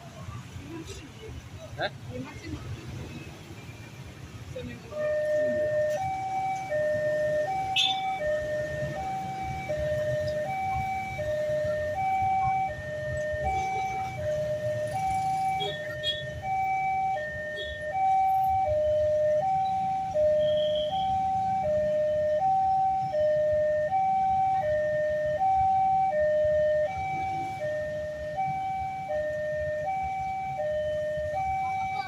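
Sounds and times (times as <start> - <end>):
two-tone crossing warning siren: 4.5 - 32.0.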